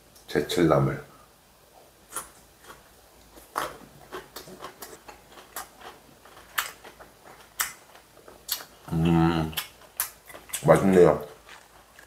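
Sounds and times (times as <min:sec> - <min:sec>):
person chewing food: 0:02.1 - 0:12.0.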